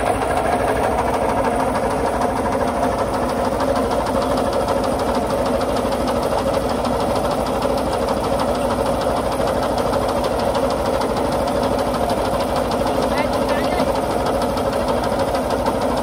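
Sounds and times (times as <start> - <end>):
diesel engine knocking steadily: 0.0 - 16.0.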